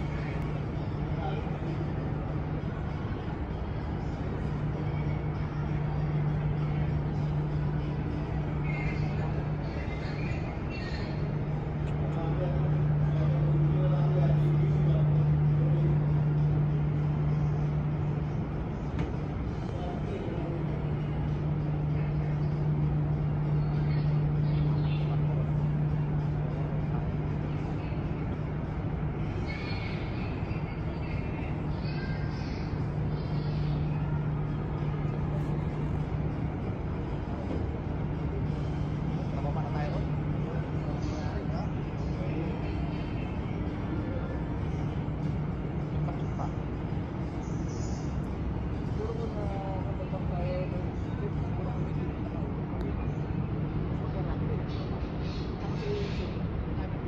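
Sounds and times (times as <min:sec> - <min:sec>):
ship engines droning: 0:00.0 - 0:57.0.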